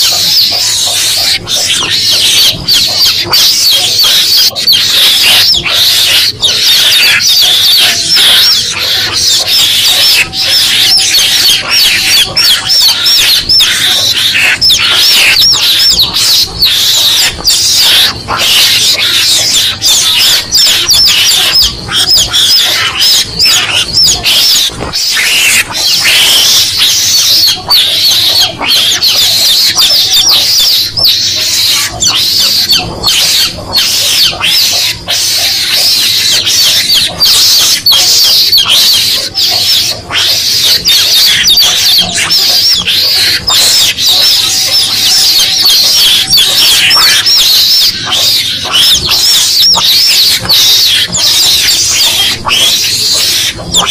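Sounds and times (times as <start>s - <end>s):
chicks peeping: 0.0s - 53.9s.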